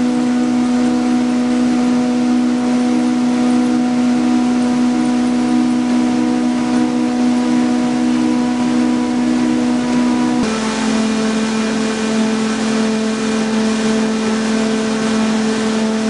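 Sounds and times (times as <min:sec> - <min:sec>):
machine drone with low hum: 0:00.0 - 0:16.0.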